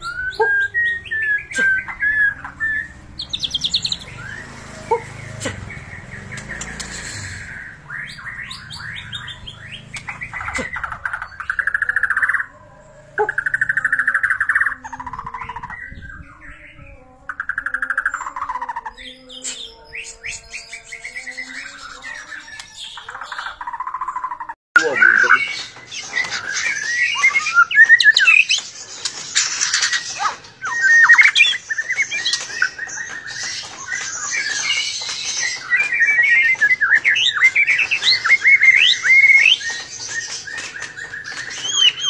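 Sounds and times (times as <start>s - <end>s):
bird singing whistles and trills: 0.0s - 4.5s, 5.7s - 12.5s, 13.2s - 42.0s.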